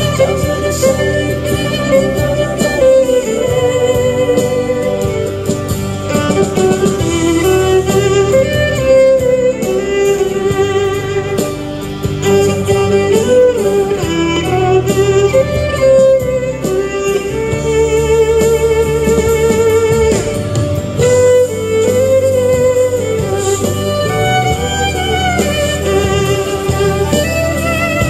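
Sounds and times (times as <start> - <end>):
bass: 0.0 - 28.0
guitar: 0.0 - 28.0
solo violin pop melody: 0.0 - 28.0.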